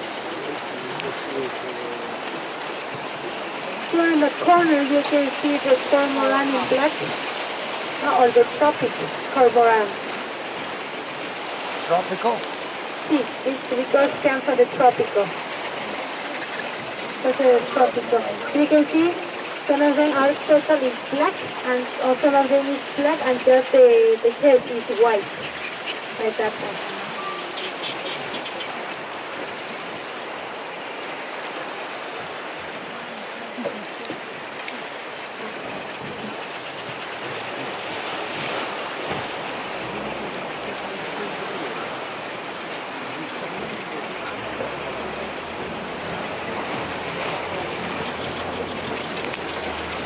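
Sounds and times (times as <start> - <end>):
high seabird calls: 0.0 - 50.0
waves breaking on rocks: 0.0 - 50.0.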